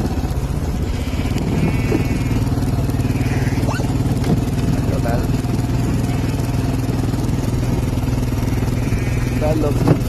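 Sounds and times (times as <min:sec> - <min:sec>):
quad bike engine running: 0:00.0 - 0:10.0.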